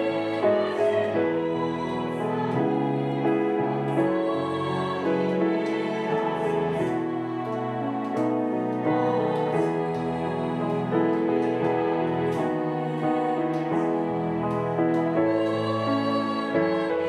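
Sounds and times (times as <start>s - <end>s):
piano accompaniment: 0.0s - 17.0s
women's choir singing a hymn: 0.0s - 17.0s.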